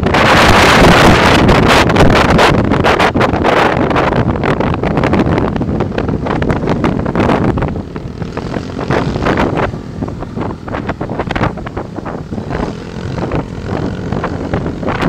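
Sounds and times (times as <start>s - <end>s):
scooter engines running: 0.0s - 15.0s
wind buffeting microphone: 0.0s - 15.0s.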